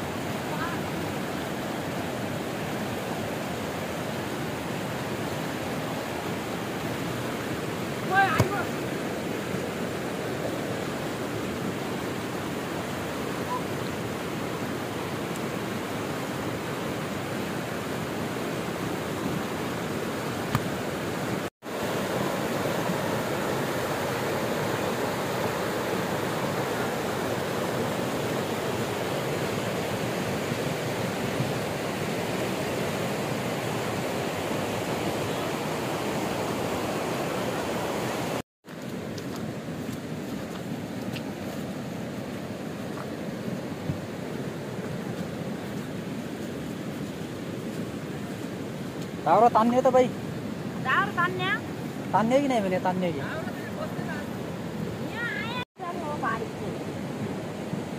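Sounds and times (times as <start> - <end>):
flooded river rushing: 0.0 - 57.9.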